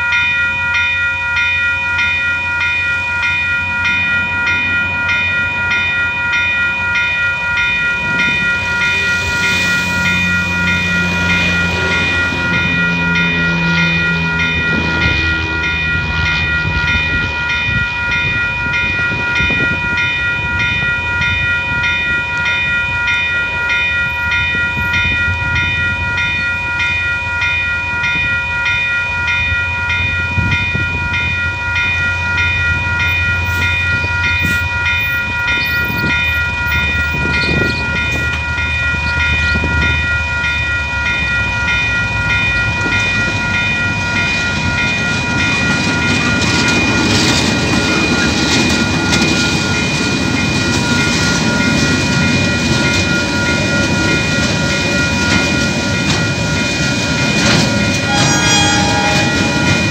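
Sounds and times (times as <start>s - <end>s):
level crossing bell ringing: 0.0s - 59.9s.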